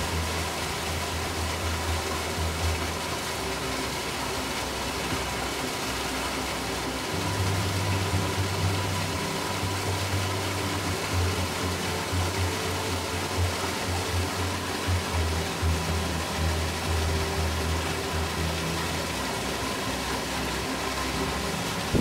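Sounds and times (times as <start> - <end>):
ambient drone music: 0.0 - 22.0
falling water hiss: 0.0 - 22.0.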